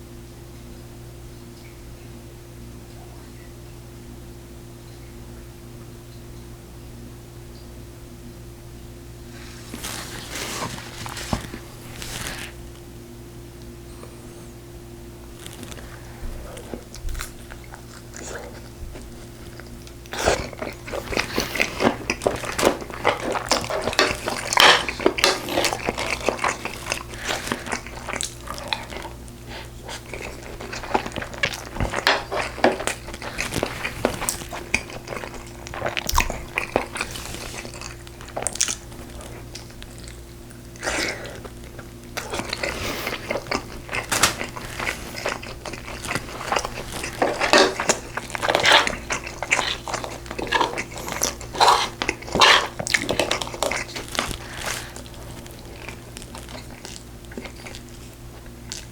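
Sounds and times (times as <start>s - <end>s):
faint steady hum: 0.0s - 58.9s
chewing and mouth smacks: 9.3s - 12.9s, 15.2s - 58.9s.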